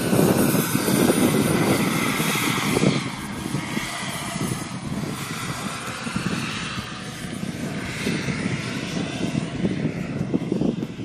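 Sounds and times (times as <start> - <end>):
model helicopter engine and rotor whine: 0.0 - 11.0.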